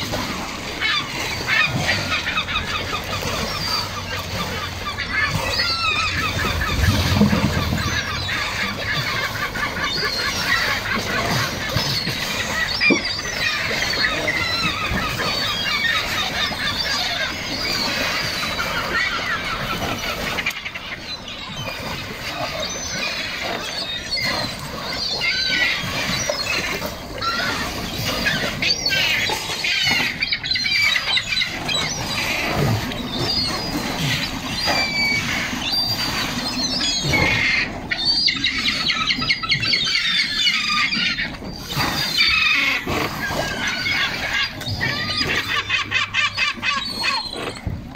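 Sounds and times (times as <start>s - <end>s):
gulls squealing and squawking: 0.0s - 47.9s
sea lions grunting: 0.0s - 47.9s.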